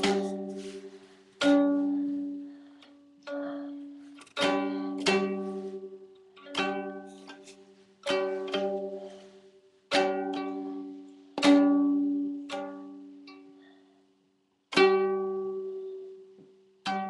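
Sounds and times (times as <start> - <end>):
ukulele strums: 0.0 - 2.6, 3.2 - 13.4, 14.7 - 17.0.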